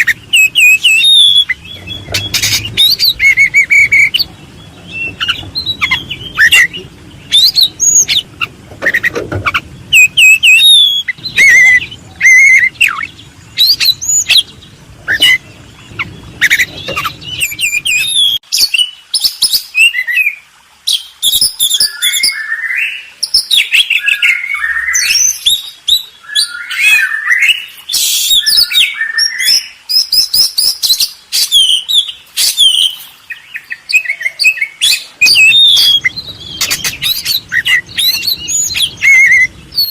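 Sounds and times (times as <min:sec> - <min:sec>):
songbirds chirping: 0:00.0 - 0:21.2, 0:21.8 - 0:39.9.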